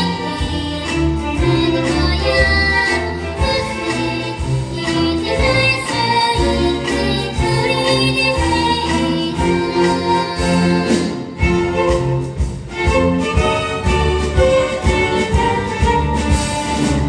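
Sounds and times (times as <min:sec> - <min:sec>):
children's choir singing: 0:00.0 - 0:17.0
instrumental accompaniment: 0:00.0 - 0:17.0.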